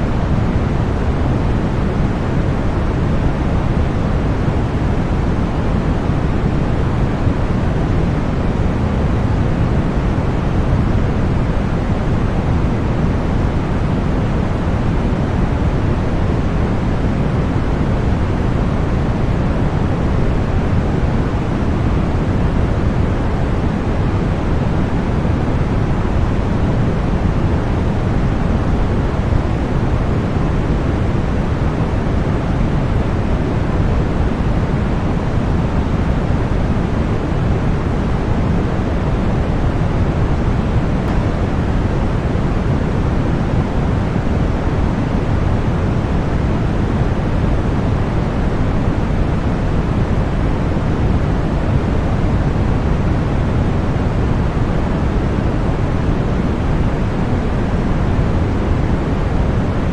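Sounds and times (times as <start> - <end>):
deep white noise: 0.0 - 59.9.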